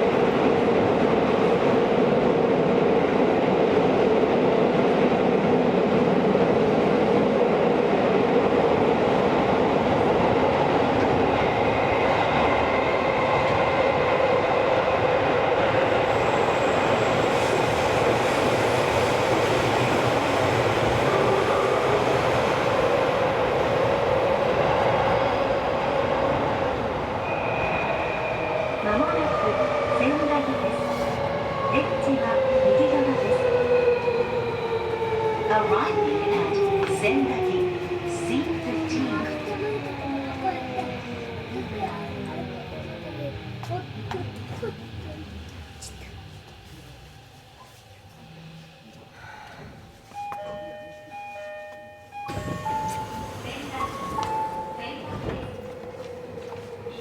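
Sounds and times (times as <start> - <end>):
wheels rumbling on rail: 4.4 - 49.1, 52.3 - 57.0.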